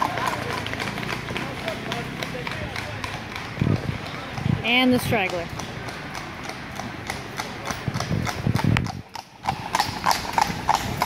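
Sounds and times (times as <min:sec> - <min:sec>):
horse hooves on asphalt: 0:00.0 - 0:11.0.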